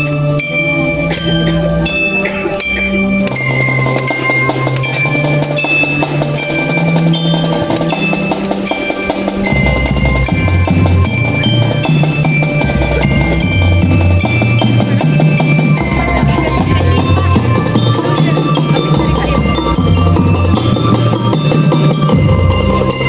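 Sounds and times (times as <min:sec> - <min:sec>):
drums: 0:00.0 - 0:23.0
mallet percussion melody: 0:00.0 - 0:23.0.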